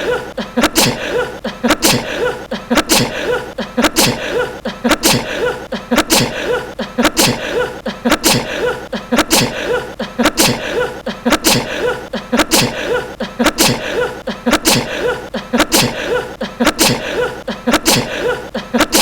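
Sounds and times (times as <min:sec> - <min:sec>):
man sneezing: 0:00.0 - 0:19.0.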